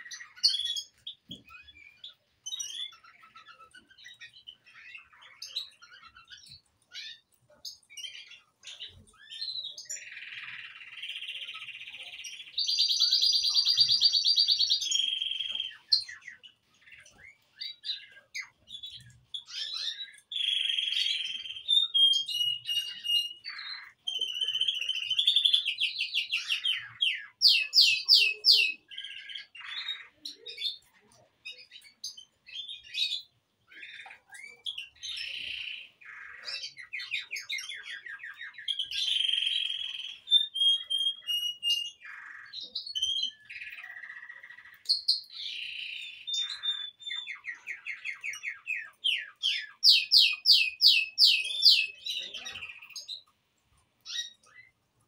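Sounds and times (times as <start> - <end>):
birds singing and chirping: 0.0 - 55.0.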